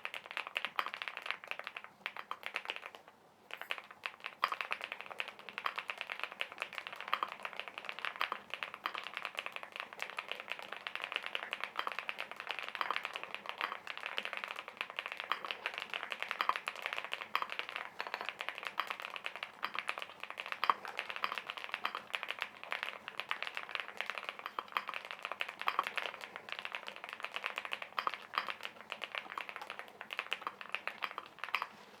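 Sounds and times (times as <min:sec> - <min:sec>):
mechanical keyboard typing: 0:00.1 - 0:31.8.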